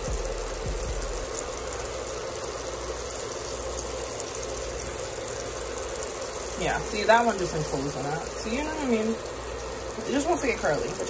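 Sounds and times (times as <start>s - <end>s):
batter sizzling in hot oil: 0.0s - 11.0s.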